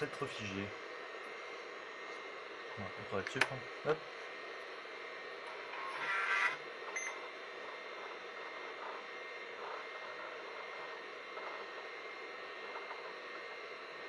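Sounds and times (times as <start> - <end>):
computer hum and hiss: 0.0 - 14.0.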